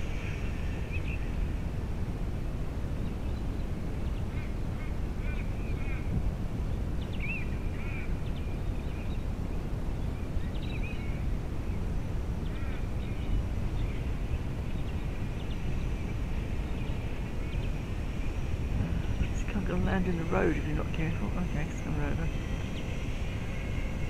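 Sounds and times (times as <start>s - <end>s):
birds chirping: 0.0s - 1.7s, 3.0s - 24.0s
wind rumbling on microphone: 0.0s - 24.0s.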